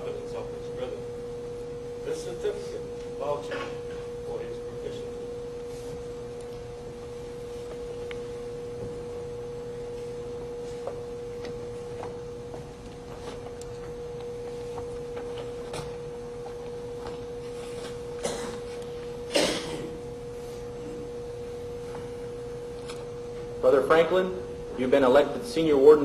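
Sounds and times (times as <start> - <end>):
steady single-pitched whine: 0.0 - 26.0.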